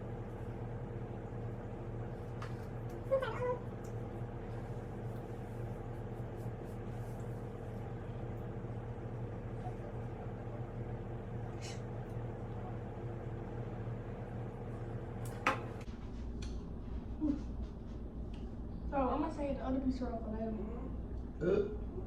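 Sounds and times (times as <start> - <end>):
household appliance hum: 0.0 - 22.0.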